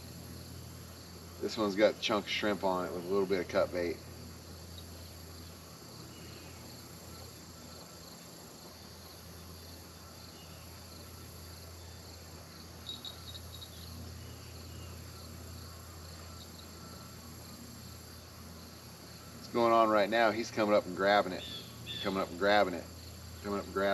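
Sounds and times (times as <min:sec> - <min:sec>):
insect chorus buzzing: 0:00.0 - 0:23.9
low steady hum: 0:00.0 - 0:23.9.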